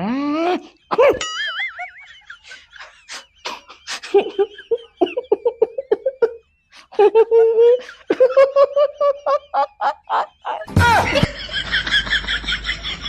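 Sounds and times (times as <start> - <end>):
rapid repeated laughter: 0.6 - 13.0.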